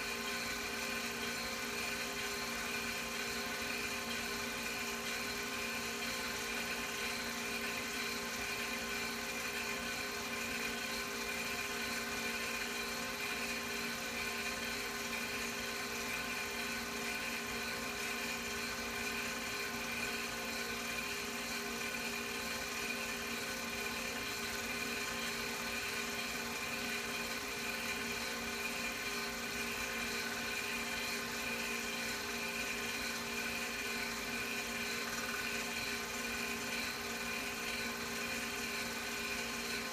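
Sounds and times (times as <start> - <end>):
film projector motor whirring: 0.0 - 39.9.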